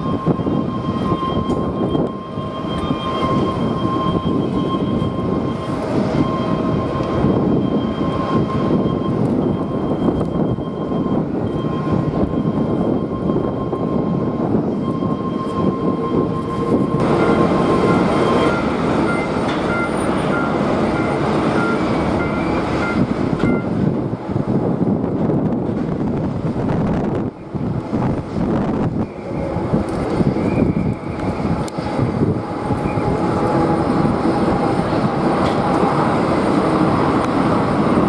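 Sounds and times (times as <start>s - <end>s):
jet engines whining: 0.0s - 38.0s
wind buffeting microphone: 0.0s - 38.0s.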